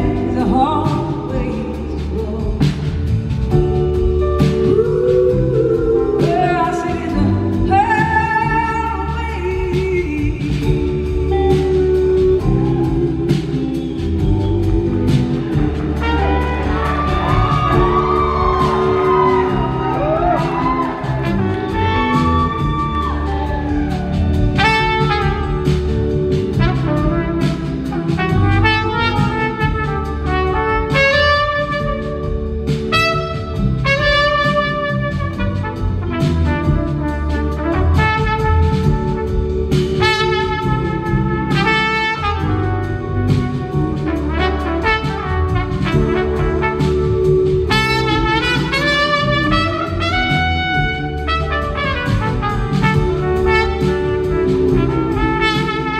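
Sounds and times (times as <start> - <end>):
band rhythm section: 0.0 - 55.9
trumpet solo: 10.2 - 55.9.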